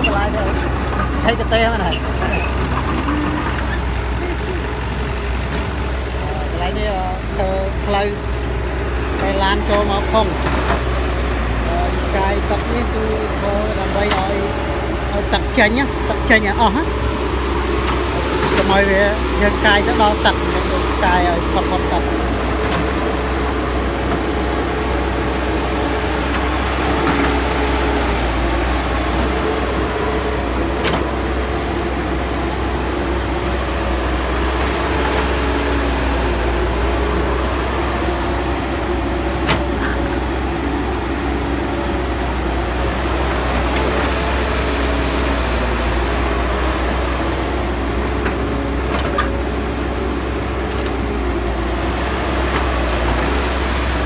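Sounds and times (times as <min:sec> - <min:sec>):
excavator diesel engine running: 0:00.0 - 0:54.0
wavering machine hum: 0:00.0 - 0:54.0.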